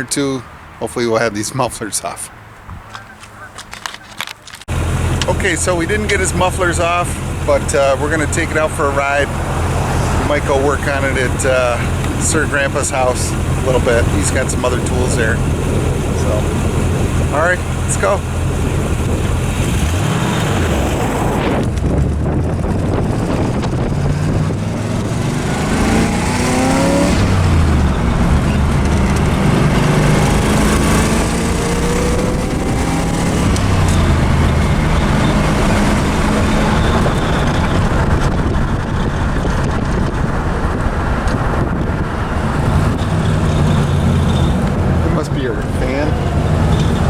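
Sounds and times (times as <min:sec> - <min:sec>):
car engine accelerating: 0:04.7 - 0:47.0.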